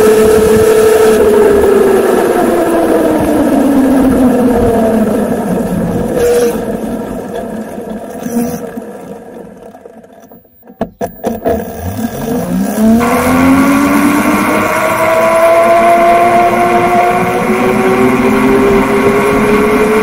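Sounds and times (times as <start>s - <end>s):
electric go-kart motor whine: 0.0s - 9.4s, 11.1s - 20.0s.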